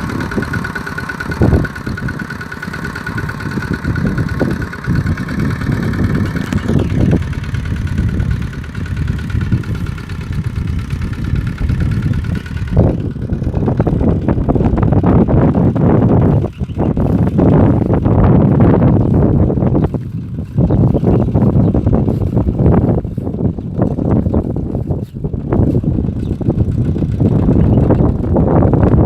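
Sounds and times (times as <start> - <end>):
diesel tractor engine running: 0.0 - 29.0.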